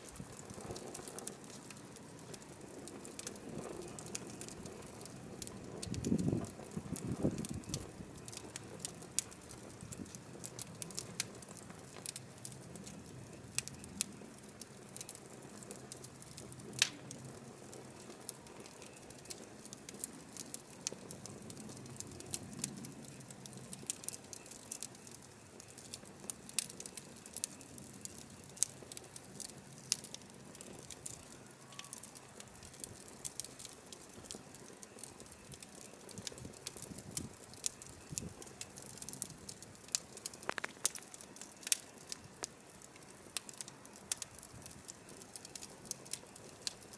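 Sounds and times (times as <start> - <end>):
firewood popping and crackling: 0.0 - 46.9
low hiss of flame: 0.0 - 46.9.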